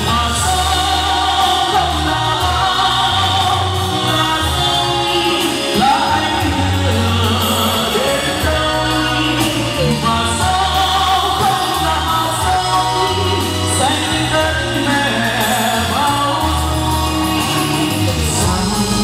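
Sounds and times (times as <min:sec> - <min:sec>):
instrumental accompaniment: 0:00.0 - 0:19.0
man singing into a microphone: 0:00.0 - 0:19.0.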